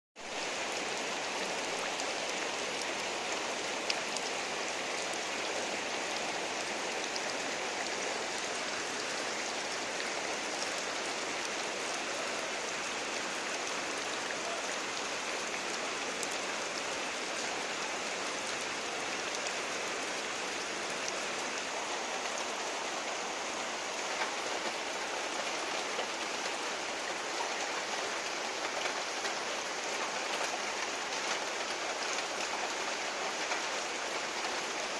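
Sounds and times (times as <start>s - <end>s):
heavy rain: 0.2s - 34.9s.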